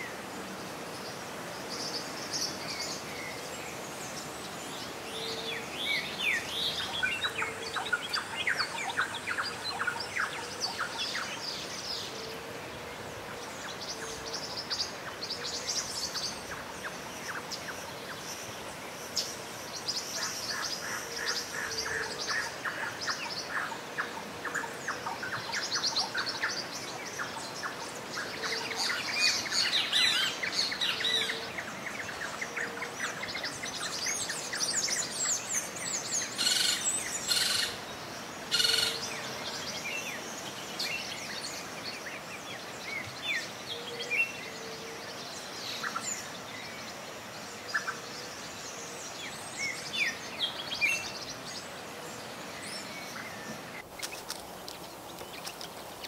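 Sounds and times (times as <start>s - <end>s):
songbirds chirping and trilling: 0.0s - 56.0s
steady background hiss: 0.0s - 56.0s.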